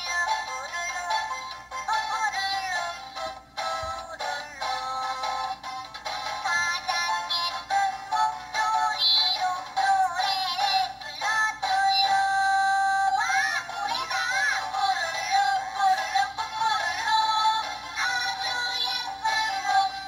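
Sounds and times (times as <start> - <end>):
cheerful song with synthetic voice: 0.0 - 20.0.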